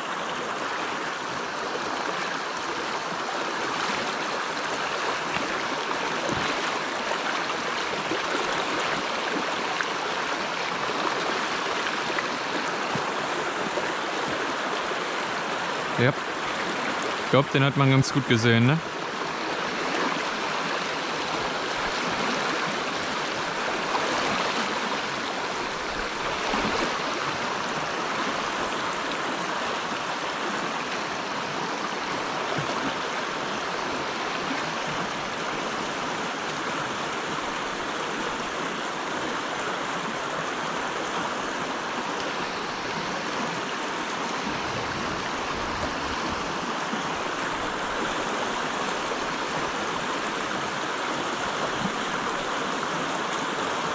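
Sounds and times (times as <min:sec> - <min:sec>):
river water flowing over stones: 0:00.0 - 0:53.9.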